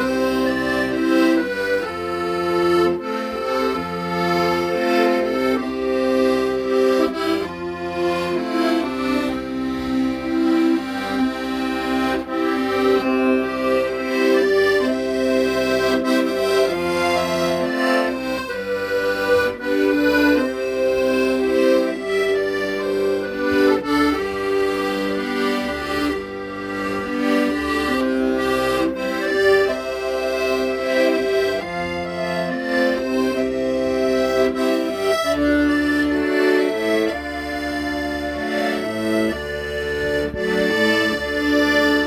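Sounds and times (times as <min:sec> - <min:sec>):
accordion playing slow melody: 0:00.0 - 0:42.0.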